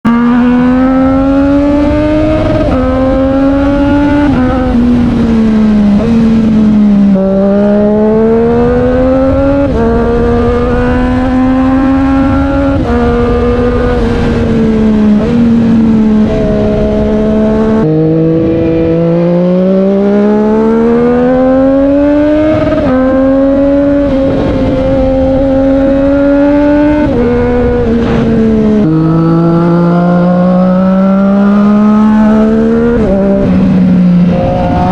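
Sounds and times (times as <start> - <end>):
motorcycle engine revving through gears: 0.0 - 34.9.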